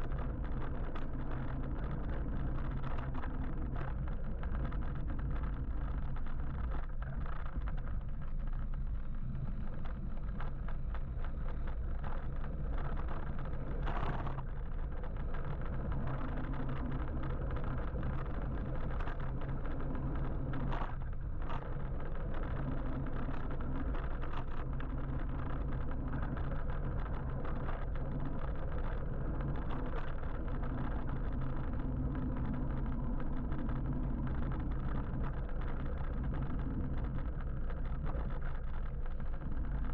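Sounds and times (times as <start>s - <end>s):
road and traffic rumble: 0.0s - 39.9s.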